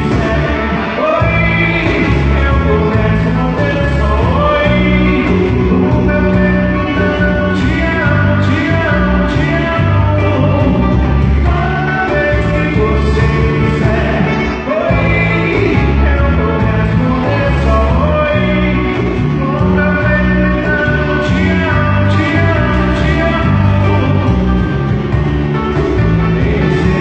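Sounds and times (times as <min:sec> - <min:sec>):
bass line of held notes: 0:00.0 - 0:27.0
live band playing: 0:00.0 - 0:27.0
person singing: 0:00.0 - 0:27.0.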